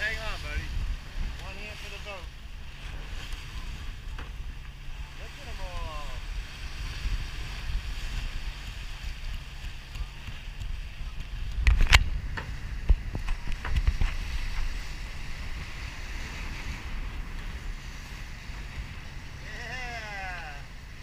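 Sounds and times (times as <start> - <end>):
water rushing past boat: 0.0 - 21.0
wind buffeting microphone: 0.0 - 21.0.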